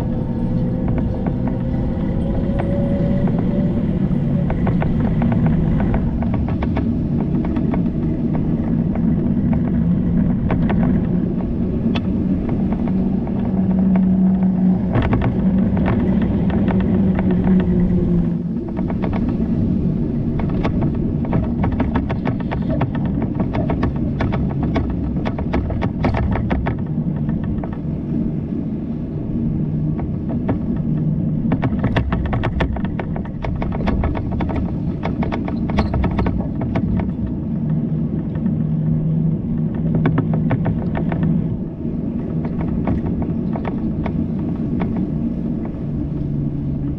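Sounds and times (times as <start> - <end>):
bicycle ride rumble: 0.0 - 46.9
low hum: 0.0 - 46.9.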